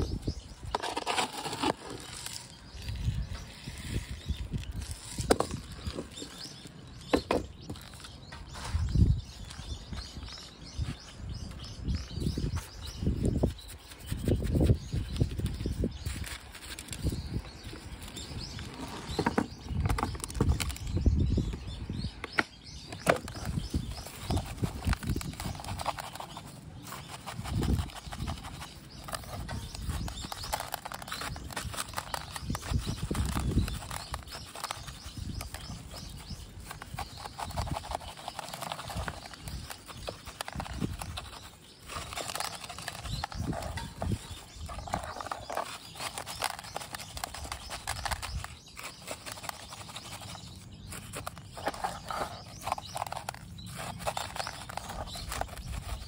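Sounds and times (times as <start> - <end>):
granular soil crunching: 0.0 - 21.2, 22.3 - 56.0.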